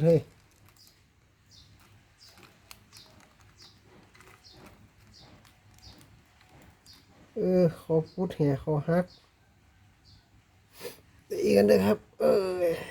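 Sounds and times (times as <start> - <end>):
small bird chirping: 0.0 - 10.4.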